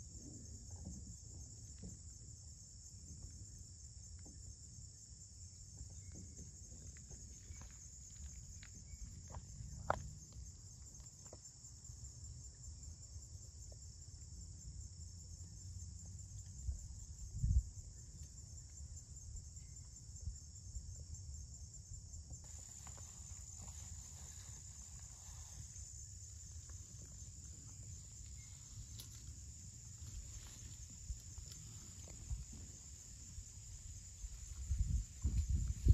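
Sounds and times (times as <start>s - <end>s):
insect chorus trilling: 0.0s - 35.9s.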